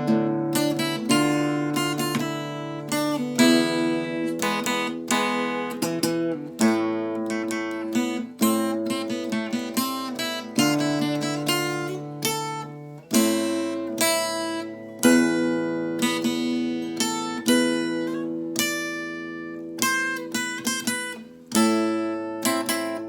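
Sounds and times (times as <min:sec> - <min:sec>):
acoustic guitar melody: 0:00.0 - 0:23.0.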